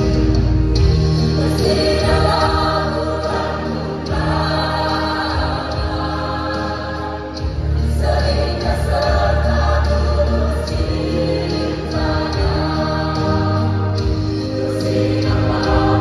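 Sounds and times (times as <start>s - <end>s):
choir singing: 1.2s - 16.0s.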